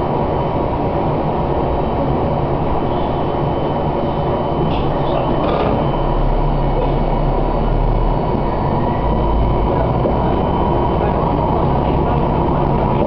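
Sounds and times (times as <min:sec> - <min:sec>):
diesel railcar engine humming: 0:00.0 - 0:13.0.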